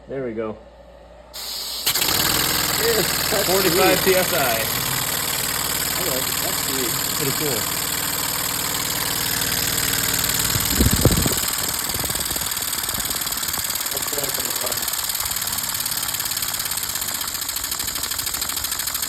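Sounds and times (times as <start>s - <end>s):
air hissing: 1.4s - 19.0s
air piston motor puffing: 1.4s - 19.0s.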